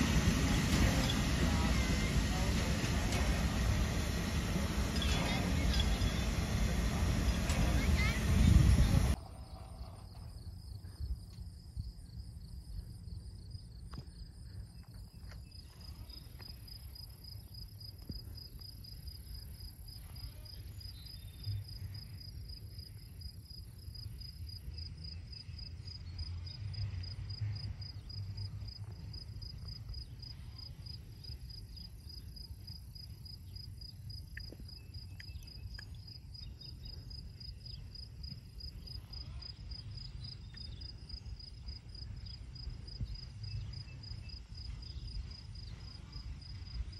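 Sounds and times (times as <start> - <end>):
insects chirping: 9.1 - 46.9.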